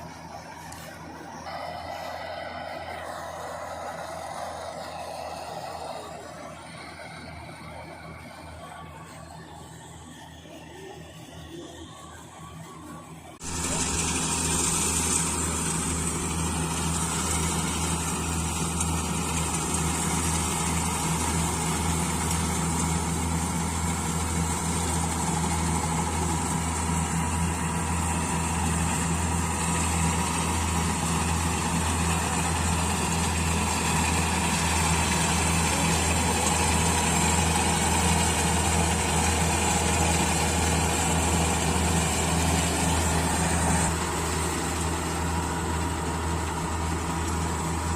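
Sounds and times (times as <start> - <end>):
combine harvester engine drone: 0.0 - 47.9.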